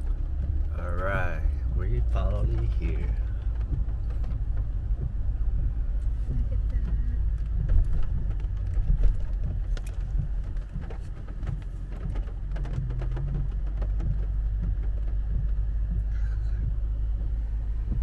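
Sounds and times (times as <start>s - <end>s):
heavy rain on a car roof: 0.0s - 18.0s.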